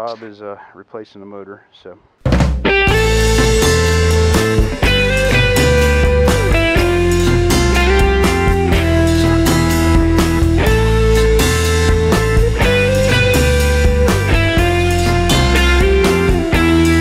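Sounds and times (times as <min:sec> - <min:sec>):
rock music with guitar: 0:02.4 - 0:17.0.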